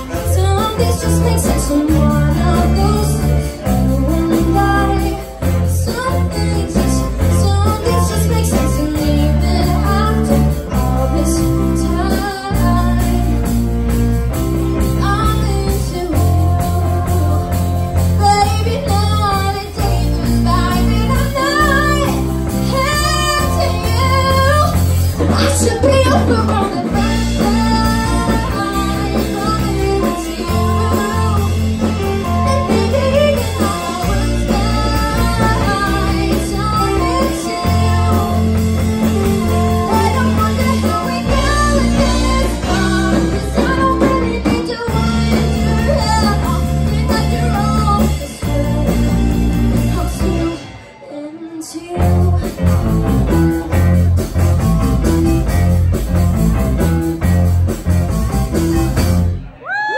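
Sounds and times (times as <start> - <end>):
saxophone: 0.0 - 50.8
bass guitar: 0.0 - 51.0, 51.9 - 59.9
drum kit: 0.0 - 51.0, 51.9 - 59.9
electric guitars: 0.0 - 51.1, 51.9 - 59.9
woman singing lead: 0.0 - 56.0.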